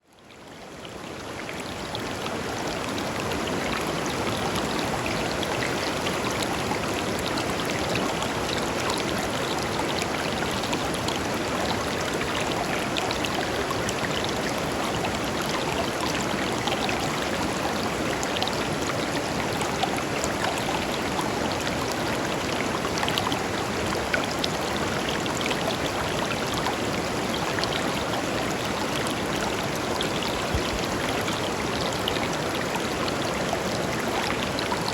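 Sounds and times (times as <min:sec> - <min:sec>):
river flowing over stones: 0:00.2 - 0:34.9.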